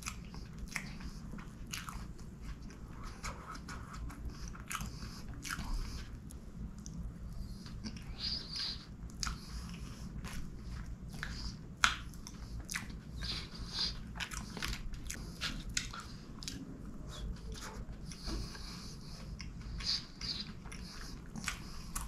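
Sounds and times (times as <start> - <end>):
chewing with wet mouth sounds: 0.0 - 22.0.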